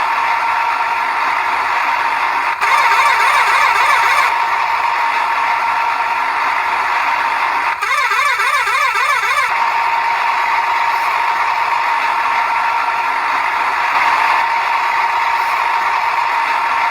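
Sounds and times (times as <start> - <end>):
small tractor motor whining: 0.0 - 16.9.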